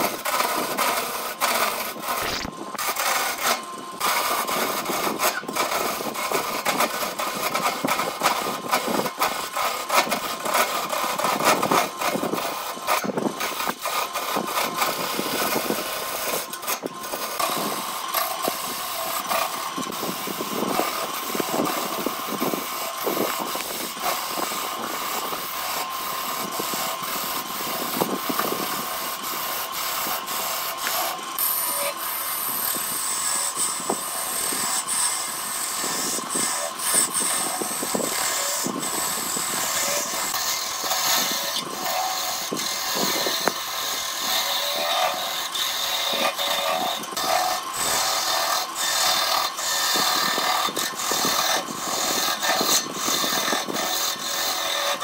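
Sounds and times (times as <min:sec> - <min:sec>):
turning tool scraping wood: 0:00.0 - 0:55.0
wood lathe whine: 0:00.0 - 0:55.0.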